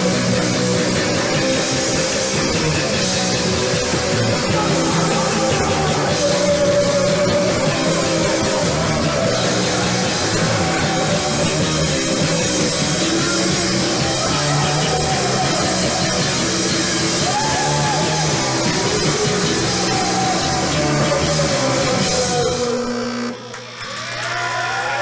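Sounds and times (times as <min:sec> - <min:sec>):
punk rock band playing live: 0:00.0 - 0:23.0.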